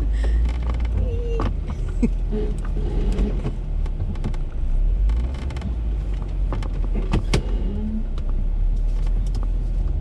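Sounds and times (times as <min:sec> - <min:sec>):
engine and drivetrain rumble: 0:00.0 - 0:10.0.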